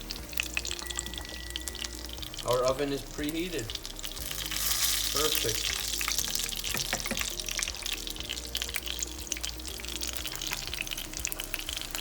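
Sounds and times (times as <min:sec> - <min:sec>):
background music: 0:00.0 - 0:12.0
chicken frying in hot oil: 0:00.0 - 0:12.0.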